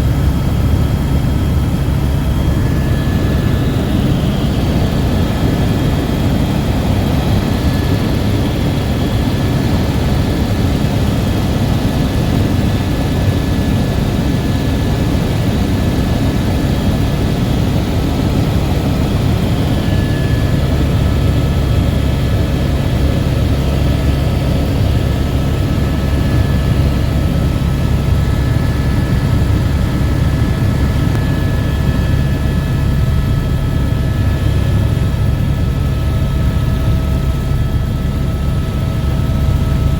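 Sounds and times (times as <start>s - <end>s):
faint steady whine: 0.0s - 39.9s
helicopter rotor rumble: 0.0s - 39.9s.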